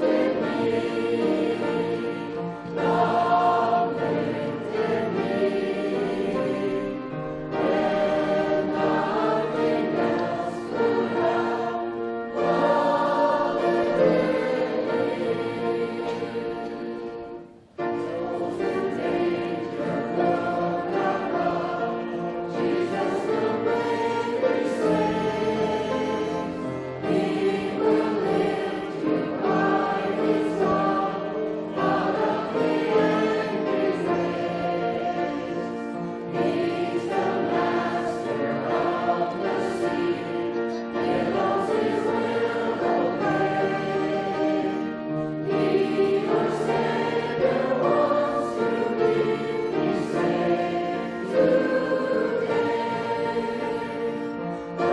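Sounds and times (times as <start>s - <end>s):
choir singing a hymn: 0.0s - 54.9s
instrumental accompaniment: 0.0s - 54.9s.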